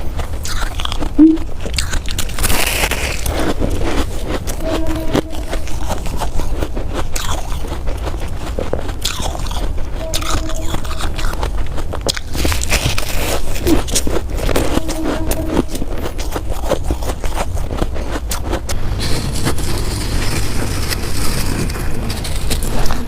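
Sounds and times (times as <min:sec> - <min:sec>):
person crunching ice: 0:00.0 - 0:23.0.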